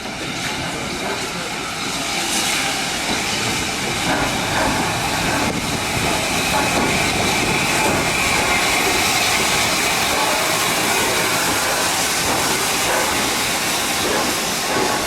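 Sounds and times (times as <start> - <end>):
steam train running: 0.0 - 15.0.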